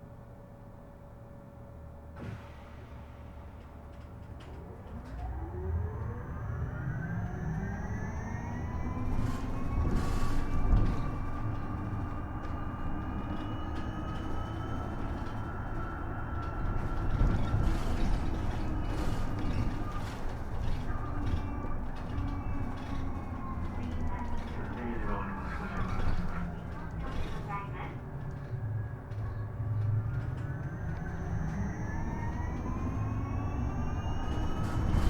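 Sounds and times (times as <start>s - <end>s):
electric bus motor whine: 0.6s - 35.0s
low road rumble: 2.5s - 35.0s.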